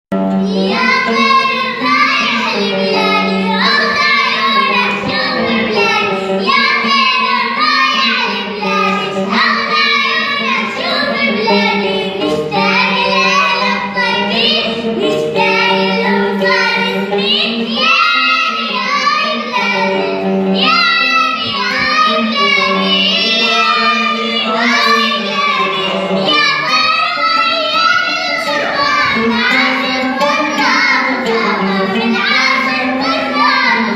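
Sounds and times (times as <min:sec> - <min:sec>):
boys singing: 0:00.5 - 0:33.9.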